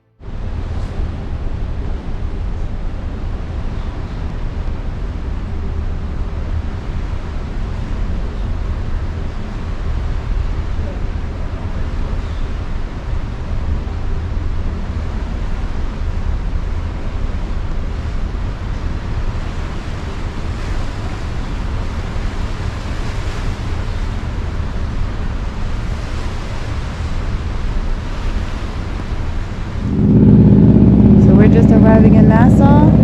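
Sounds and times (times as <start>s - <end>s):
wind rumbling on microphone: 0.2s - 33.0s
sea wash: 0.3s - 33.0s.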